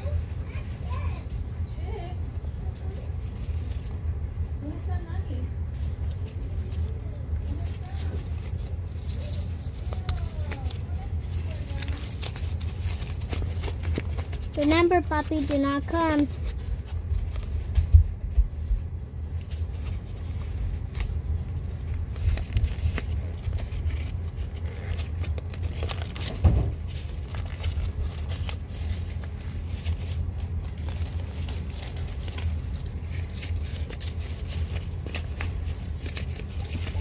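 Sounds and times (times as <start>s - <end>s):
scrapes and rustles: 0.0s - 37.0s.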